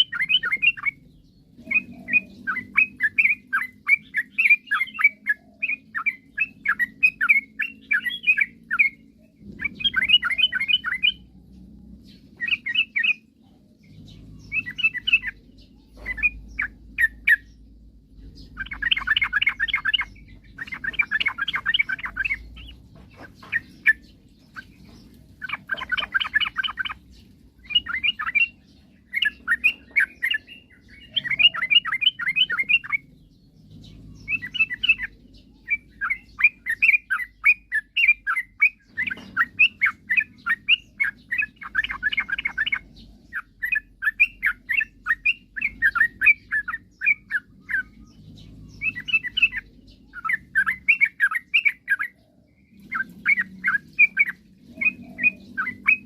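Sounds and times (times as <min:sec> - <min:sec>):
bird singing bubbling notes: 0:00.0 - 0:56.0.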